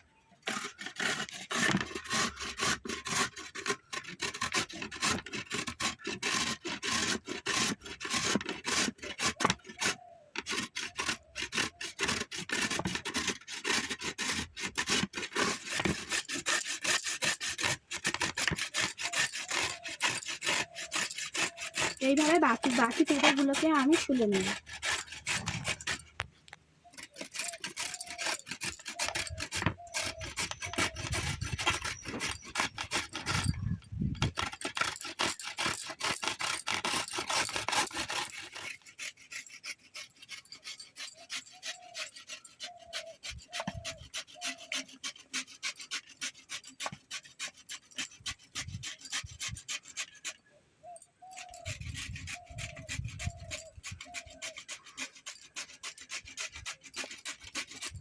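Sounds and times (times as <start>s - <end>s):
peeler rasping papaya skin: 0.4s - 58.0s.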